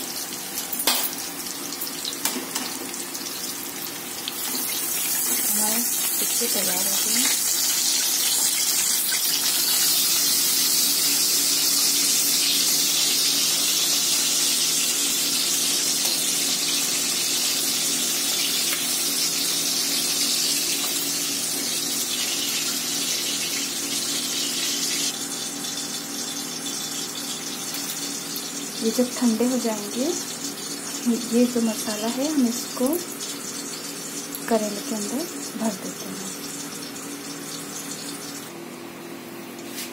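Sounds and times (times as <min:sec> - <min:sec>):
hot oil sizzling: 0:00.0 - 0:39.9.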